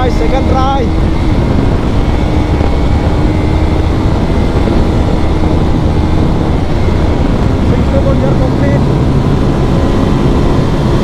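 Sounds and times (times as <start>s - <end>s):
motorcycle engine at high revs: 0.0s - 11.0s
wind rush on microphone: 0.0s - 11.0s.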